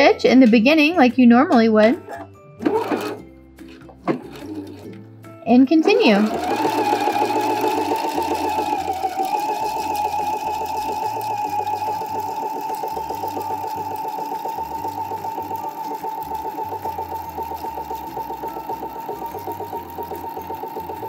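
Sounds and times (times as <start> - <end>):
sewing machine stitching: 2.0 - 5.0, 5.8 - 21.0.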